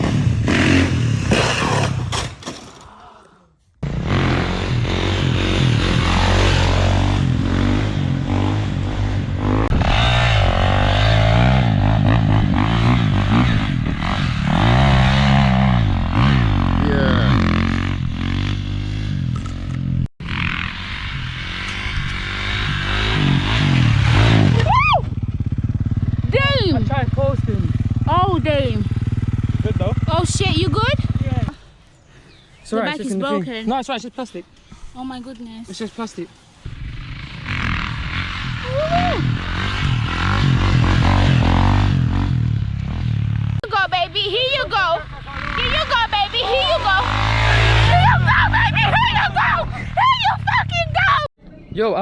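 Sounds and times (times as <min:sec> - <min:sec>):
dirt bike engine revving: 0:00.0 - 0:02.8, 0:03.8 - 0:31.6, 0:36.7 - 0:51.2.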